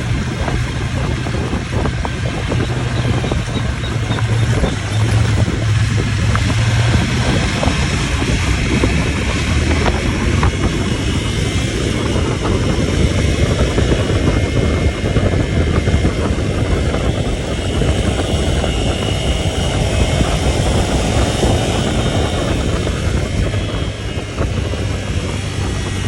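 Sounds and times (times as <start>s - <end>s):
vehicle engine and road noise: 0.0s - 26.0s
wind rumble on microphone: 0.0s - 26.0s.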